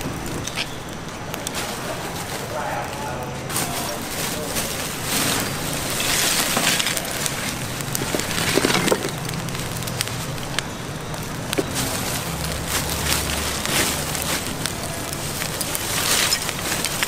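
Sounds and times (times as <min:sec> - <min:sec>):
background noise: 0:00.0 - 0:17.0
sharp clicks and crackles: 0:00.0 - 0:17.0.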